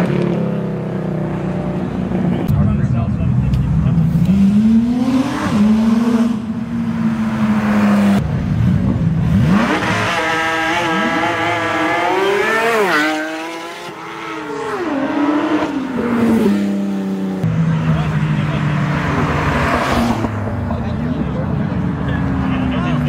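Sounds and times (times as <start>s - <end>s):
sports cars accelerating hard: 3.9s - 23.0s.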